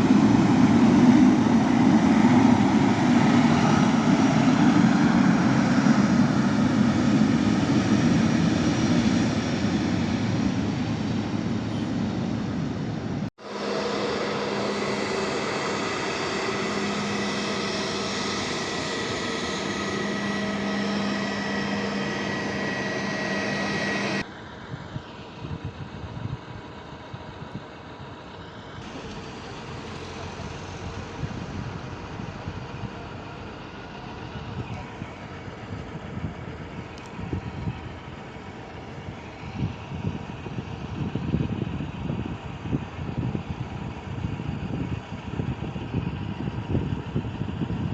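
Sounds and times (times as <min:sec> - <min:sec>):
jet engines whining: 0:00.0 - 0:25.4, 0:28.1 - 0:47.9
wind buffeting microphone: 0:00.0 - 0:27.8, 0:29.8 - 0:33.0, 0:34.2 - 0:47.9
steady jet rumble: 0:00.0 - 0:47.9.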